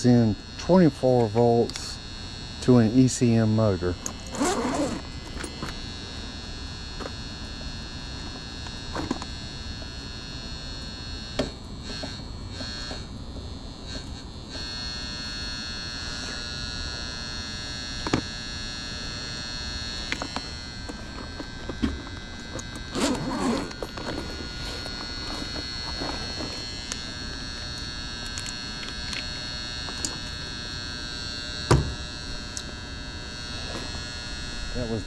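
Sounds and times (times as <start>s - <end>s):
relay electrical buzzing hum: 0.0s - 35.0s.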